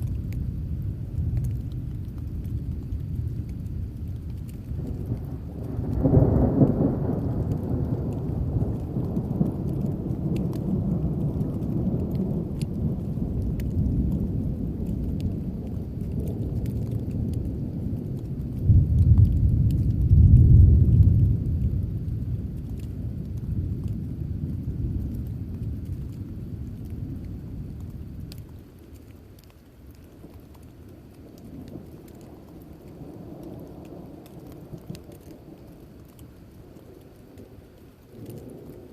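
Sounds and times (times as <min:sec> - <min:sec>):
thunder rumbling: 0:00.0 - 0:28.8, 0:30.0 - 0:38.9.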